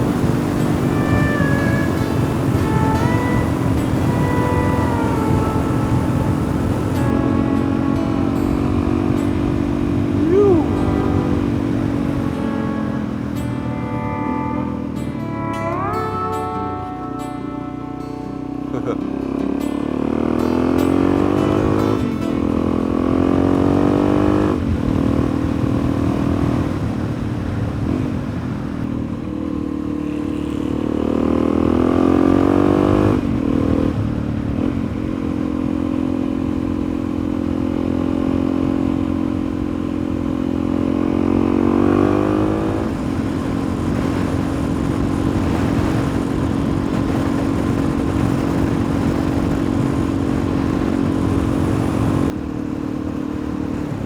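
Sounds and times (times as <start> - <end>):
motorcycle engine changing gear: 0.0 - 54.0.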